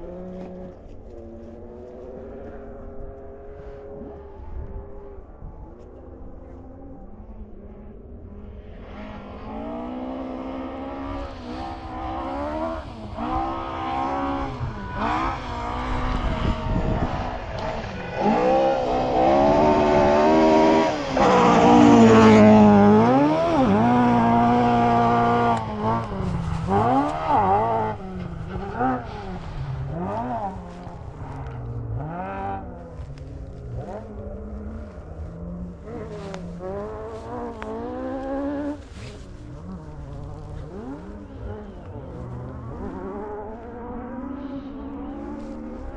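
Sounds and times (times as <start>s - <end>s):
rally car engine revving: 0.0s - 45.9s
tyre and road noise: 0.0s - 45.9s.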